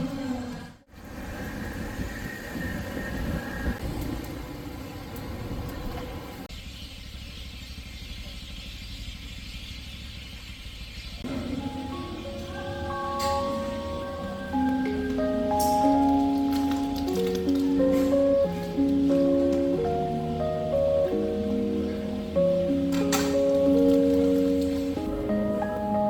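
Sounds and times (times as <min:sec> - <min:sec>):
low engine rumble: 0:00.0 - 0:26.0
street background noise: 0:00.0 - 0:26.0.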